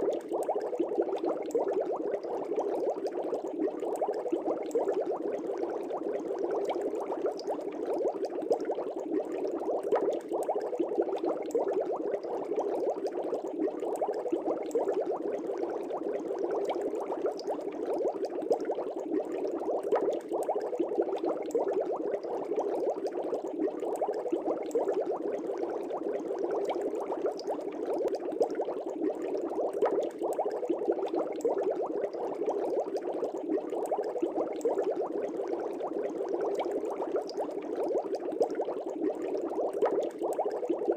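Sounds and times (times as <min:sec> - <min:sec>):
fish tank water bubbling: 0:00.0 - 0:40.9.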